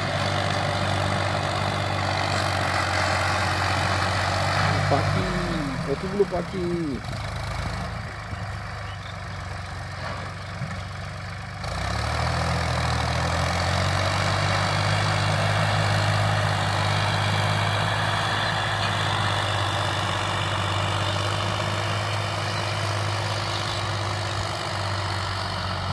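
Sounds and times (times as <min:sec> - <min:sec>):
tractor engine droning: 0:00.0 - 0:25.9.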